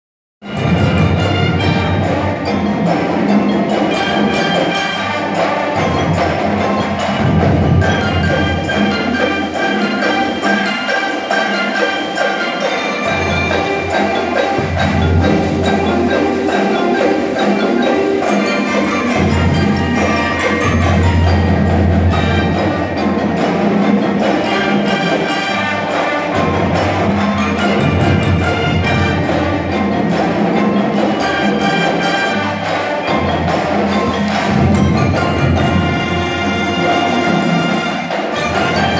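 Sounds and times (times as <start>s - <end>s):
marching band playing: 0.4s - 38.9s
marimbas and xylophones: 0.4s - 38.9s.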